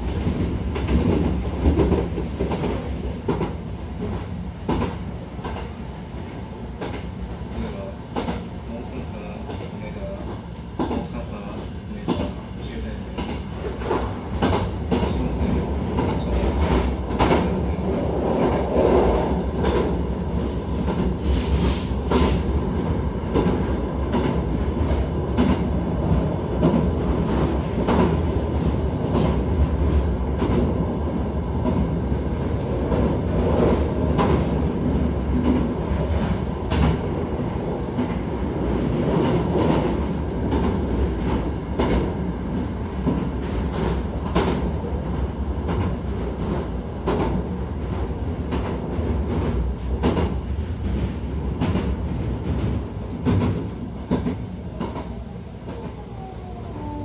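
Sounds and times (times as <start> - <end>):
low rumble of train wheels: 0.0 - 57.0.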